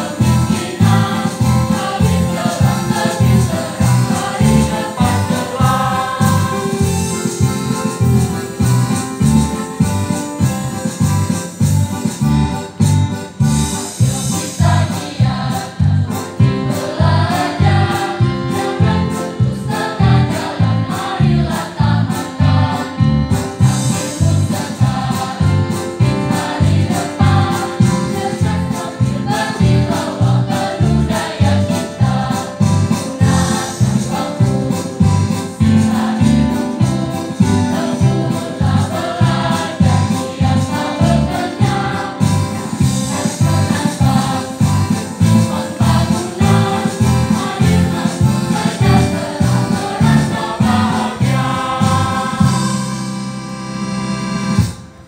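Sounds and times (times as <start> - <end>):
choir singing into microphones: 0.0 - 11.6, 13.1 - 53.6
accompaniment with a steady beat: 0.0 - 55.0.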